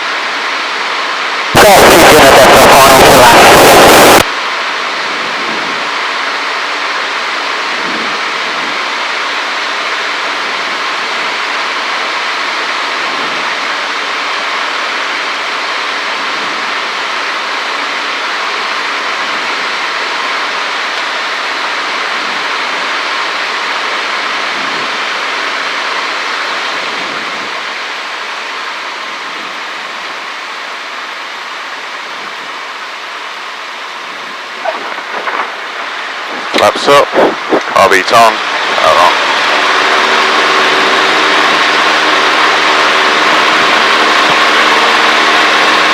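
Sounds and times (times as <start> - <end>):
aircraft engine and airflow hiss: 0.0 - 45.9.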